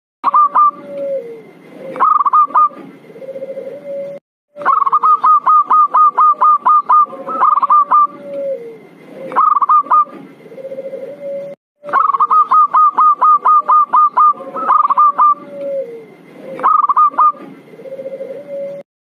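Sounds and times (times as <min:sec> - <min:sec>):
doves cooing: 0:00.2 - 0:18.8.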